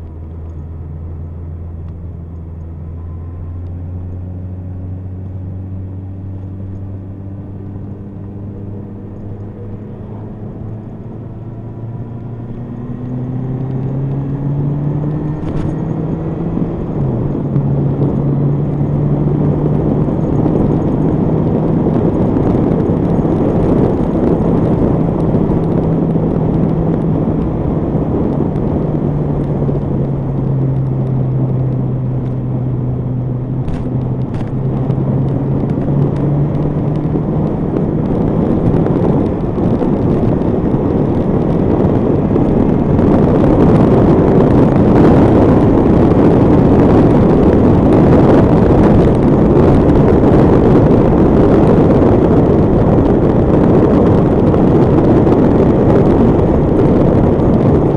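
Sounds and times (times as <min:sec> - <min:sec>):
motorcycle engine: 0:00.0 - 0:57.9
wind rush: 0:00.0 - 0:57.9.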